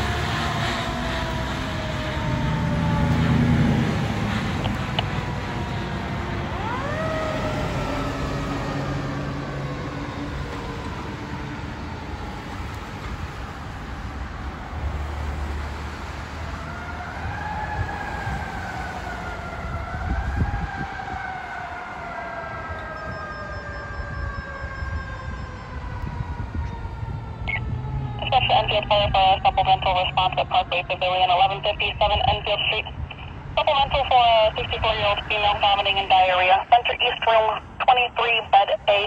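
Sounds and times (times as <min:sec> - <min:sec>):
fire engine siren wailing: 0:00.0 - 0:39.0
passing traffic: 0:00.0 - 0:39.0.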